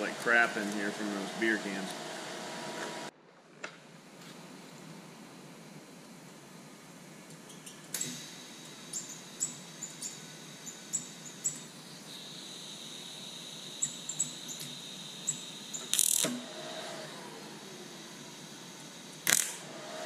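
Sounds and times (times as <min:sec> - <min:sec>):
welder buzzing: 0:00.0 - 0:03.1, 0:07.0 - 0:20.0
welder high whine: 0:00.0 - 0:03.1, 0:03.9 - 0:20.0.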